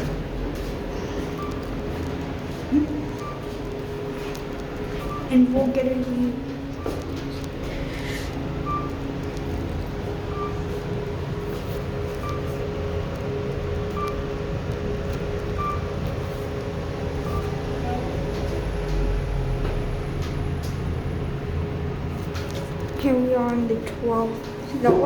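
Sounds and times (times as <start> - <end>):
elevator hum and rumble: 0.0 - 25.0.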